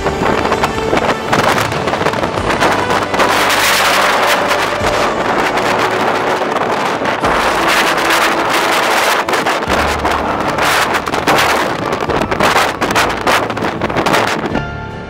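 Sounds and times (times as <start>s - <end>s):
wind buffeting microphone: 0.0s - 14.7s.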